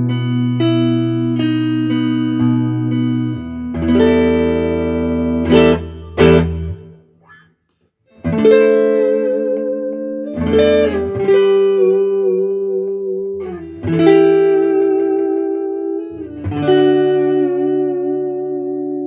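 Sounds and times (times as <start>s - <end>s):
clean electric guitar chords: 0.0s - 7.0s, 8.2s - 19.0s.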